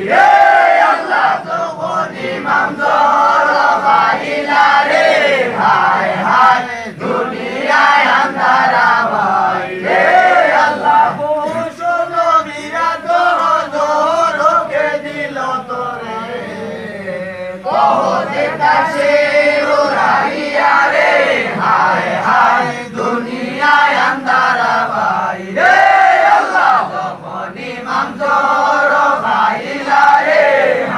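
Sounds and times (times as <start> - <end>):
group devotional chanting: 0.0 - 30.9.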